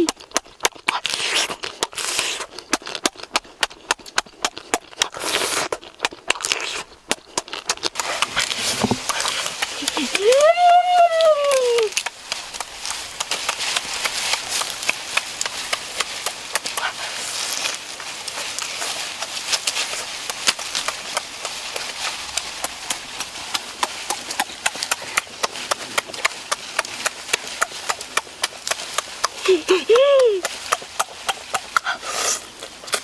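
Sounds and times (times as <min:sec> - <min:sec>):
chewing and mouth-smacking: 0:00.0 - 0:33.0.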